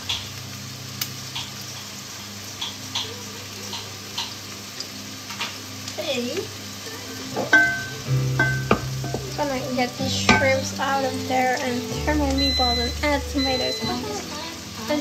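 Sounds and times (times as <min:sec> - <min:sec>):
food popping and crackling: 0:00.0 - 0:15.0.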